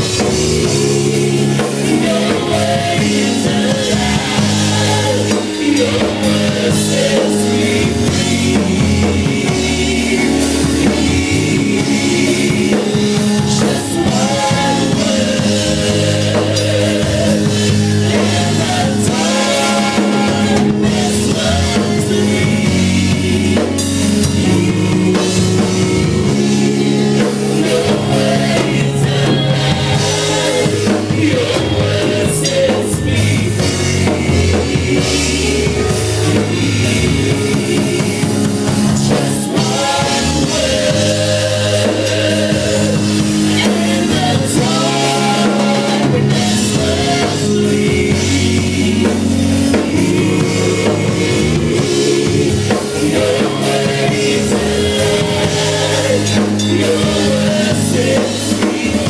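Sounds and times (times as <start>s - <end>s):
drum kit: 0.0s - 59.0s
electric keyboard: 0.0s - 59.0s
voices singing together: 0.0s - 59.0s.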